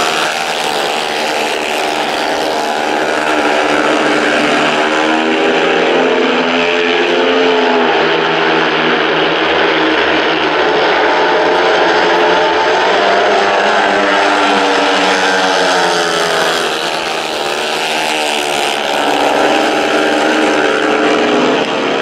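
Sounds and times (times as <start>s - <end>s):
motorbikes racing at high revs: 0.0s - 22.0s.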